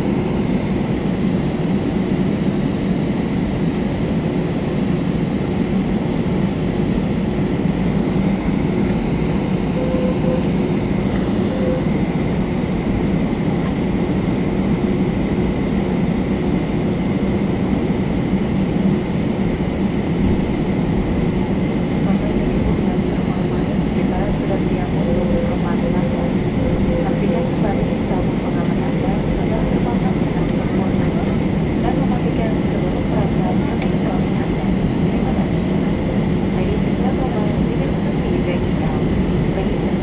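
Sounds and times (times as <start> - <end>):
jet engines humming in cabin: 0.0 - 40.0
high steady whine: 6.2 - 40.0.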